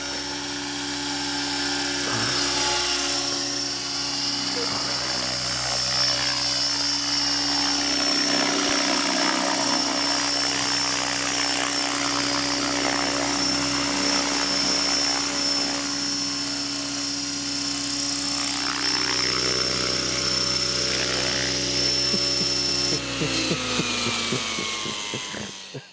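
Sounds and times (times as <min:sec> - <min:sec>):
model helicopter rotor whine: 0:00.0 - 0:25.9.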